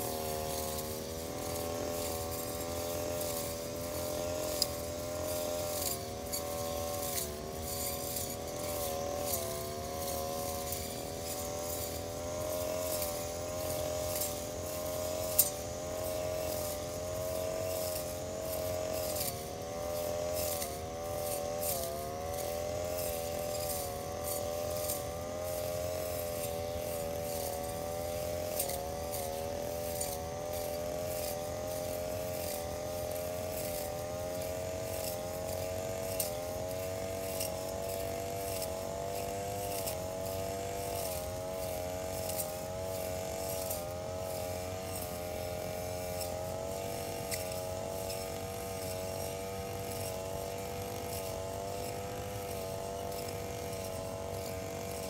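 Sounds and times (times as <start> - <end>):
brush cutter cutting grass: 0.0 - 55.0.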